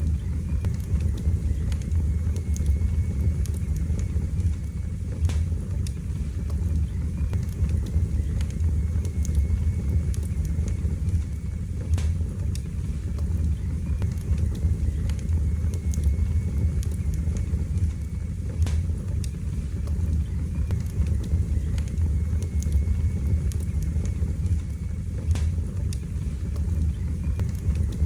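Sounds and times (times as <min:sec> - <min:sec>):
fire flames rumbling: 0:00.0 - 0:28.0
logs crackling and popping: 0:00.0 - 0:28.0.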